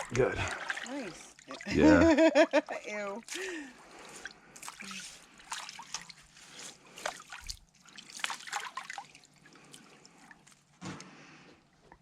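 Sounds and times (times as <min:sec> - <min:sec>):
water trickling and splashing: 0:00.0 - 0:02.2, 0:02.8 - 0:10.8.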